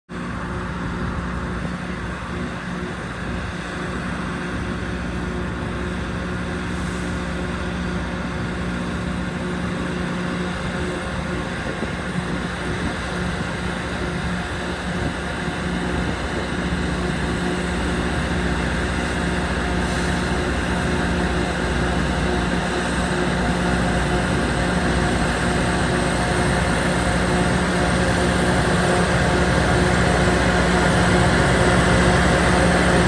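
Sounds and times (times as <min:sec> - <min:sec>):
rail grinder train drone: 0:00.1 - 0:33.0.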